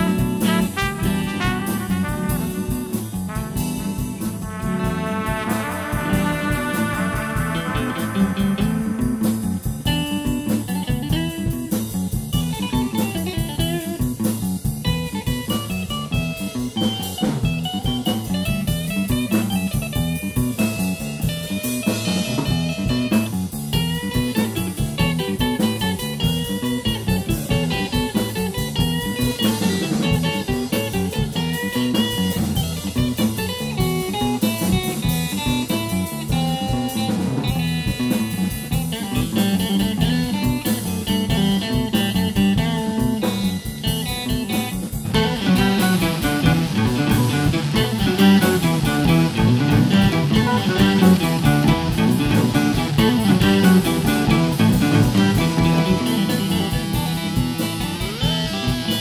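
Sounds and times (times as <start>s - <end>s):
bass line: 0.0s - 59.0s
drum kit beat: 0.0s - 59.0s
jazz guitar: 0.0s - 59.0s.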